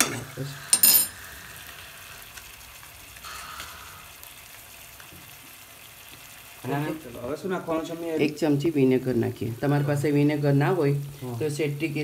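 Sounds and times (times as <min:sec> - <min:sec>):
chutney sizzling in oil: 0:00.0 - 0:12.0.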